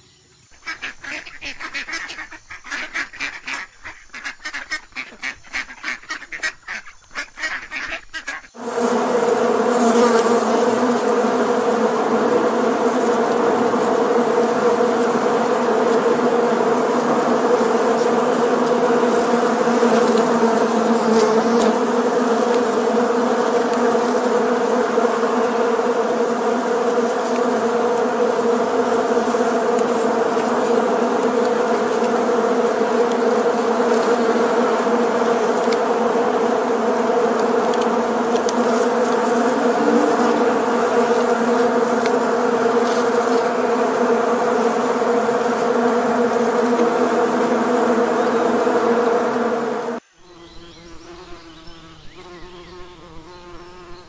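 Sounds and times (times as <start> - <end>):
bees buzzing: 0.6 - 54.0.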